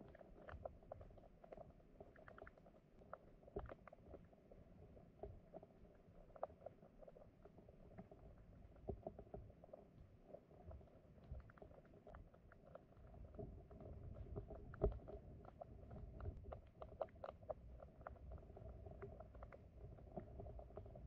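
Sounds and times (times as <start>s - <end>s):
muffled underwater stream rumble: 0.0s - 21.0s
small clicks and pops: 0.0s - 21.0s.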